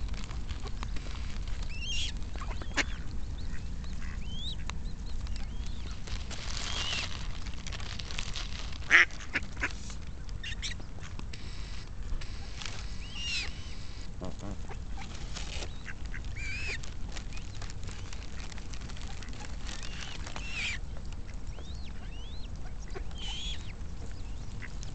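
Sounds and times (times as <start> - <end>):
low steady rumble: 0.0 - 24.9
coots calling: 0.2 - 7.4, 10.4 - 24.9.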